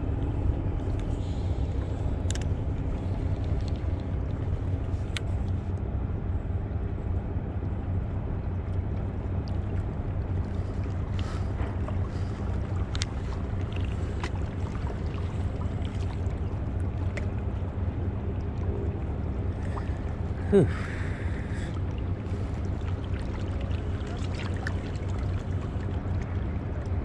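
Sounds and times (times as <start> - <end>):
faint low hum: 0.0 - 27.0
water: 0.0 - 27.0.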